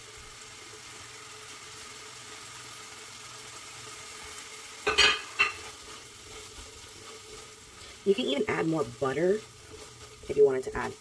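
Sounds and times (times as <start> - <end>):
shrimp sizzling in a wok: 0.0 - 11.0.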